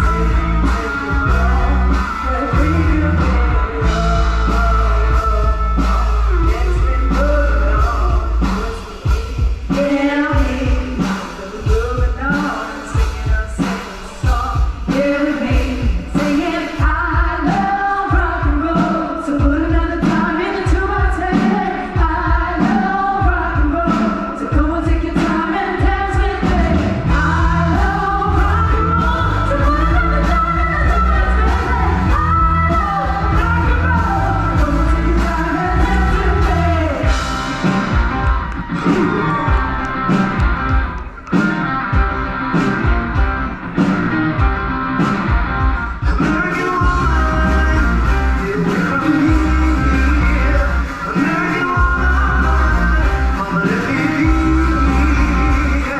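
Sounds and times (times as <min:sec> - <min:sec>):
person singing rock song: 0:00.0 - 0:55.9
rock band with drum beat: 0:00.0 - 0:55.9.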